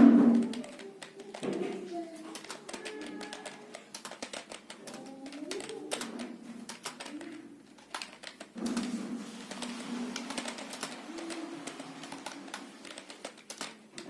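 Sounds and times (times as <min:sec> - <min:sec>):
computer keyboard keys clacking: 0:00.3 - 0:08.9, 0:09.5 - 0:14.0.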